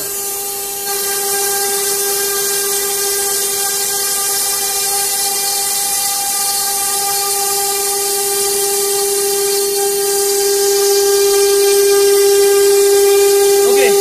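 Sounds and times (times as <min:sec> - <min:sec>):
hiss of wood cutting: 0:00.0 - 0:14.0
router spindle whining: 0:00.0 - 0:14.0.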